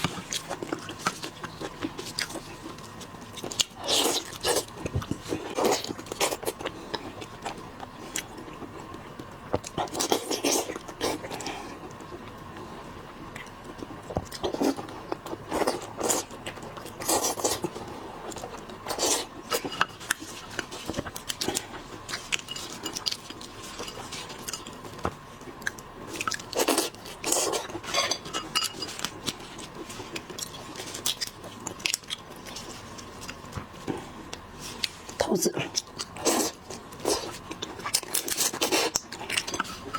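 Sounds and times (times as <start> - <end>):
chewing and crunching seafood: 0.0 - 39.9.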